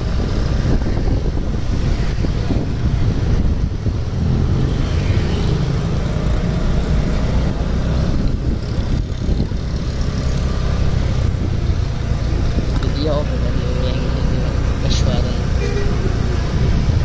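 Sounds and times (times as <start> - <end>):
engine and road rumble: 0.0 - 17.0
wind buffeting microphone: 0.0 - 17.0.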